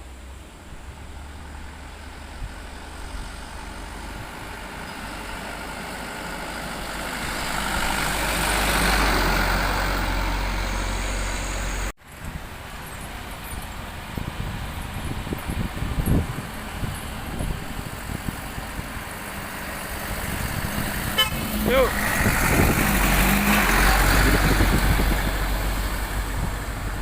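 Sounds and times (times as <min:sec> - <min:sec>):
heavy truck passing: 0:00.0 - 0:27.0.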